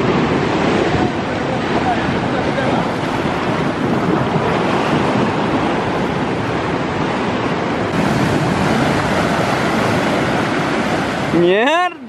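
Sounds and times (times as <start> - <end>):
wind on microphone: 0.0 - 11.5
heavy surf breaking on rocks: 0.0 - 12.0.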